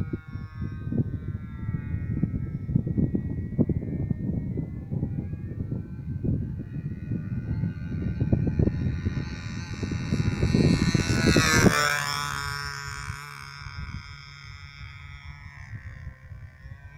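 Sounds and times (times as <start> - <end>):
model airplane engine: 0.0 - 16.9
wind buffeting microphone: 0.0 - 16.9.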